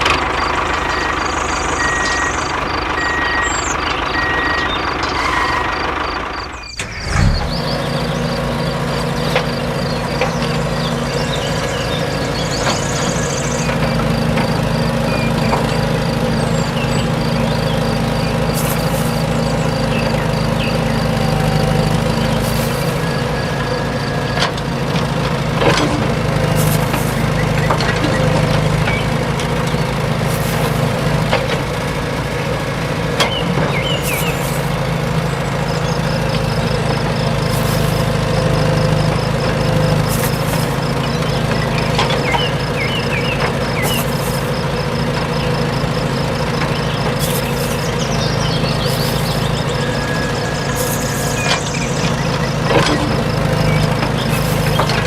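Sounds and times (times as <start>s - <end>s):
motor humming: 0.0s - 55.0s.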